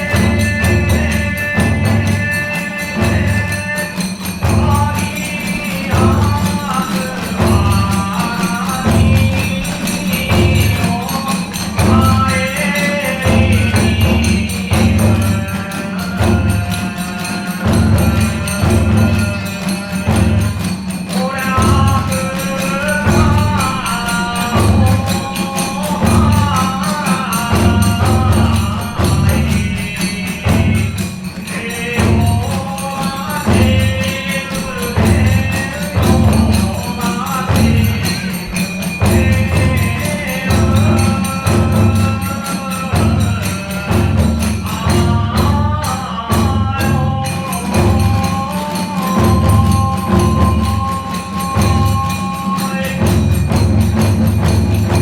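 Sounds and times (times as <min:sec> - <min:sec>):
drums beating: 0:00.0 - 0:55.0
hand cymbals clashing: 0:00.0 - 0:55.0.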